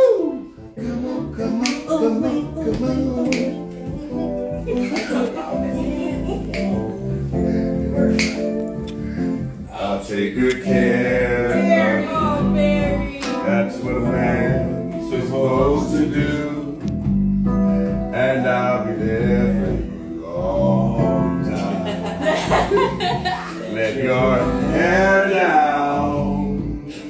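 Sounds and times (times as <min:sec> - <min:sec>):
electric keyboard chords: 0:00.0 - 0:27.0.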